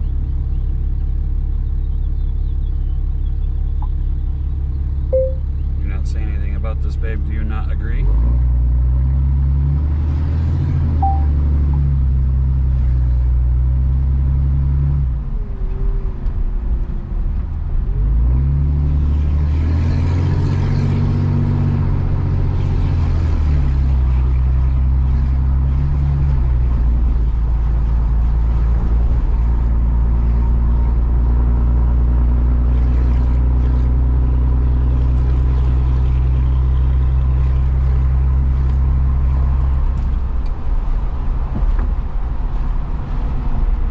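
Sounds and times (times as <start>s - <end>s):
road noise: 0.0s - 43.9s
truck engine drone: 0.0s - 43.9s.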